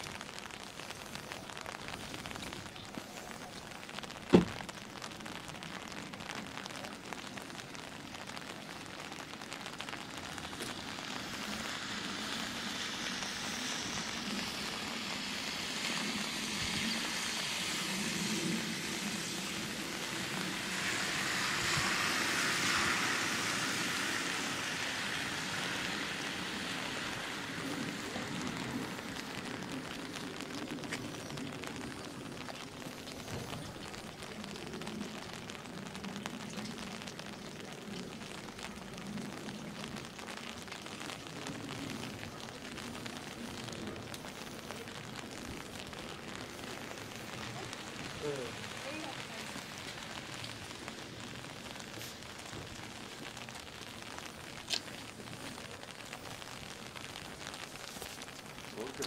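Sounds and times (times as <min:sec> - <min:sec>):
rain on wet tarmac: 0:00.0 - 0:59.0.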